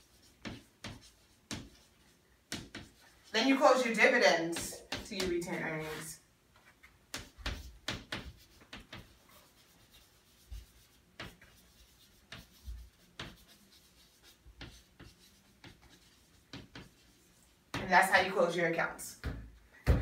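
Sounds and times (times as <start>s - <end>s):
chalk tapping and scratching: 0.0s - 18.3s.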